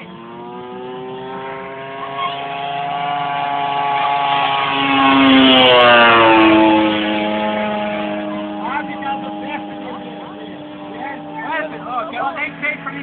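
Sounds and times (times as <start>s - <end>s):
model plane engine fly-by: 0.0s - 13.0s.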